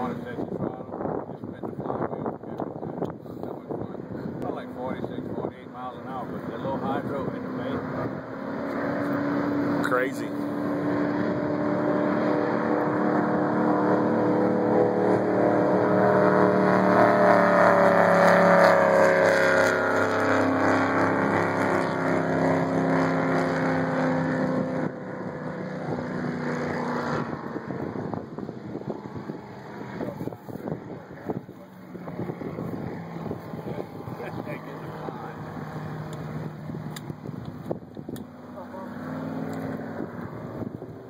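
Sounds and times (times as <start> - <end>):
powerboat engine passing by: 0.0 - 41.0.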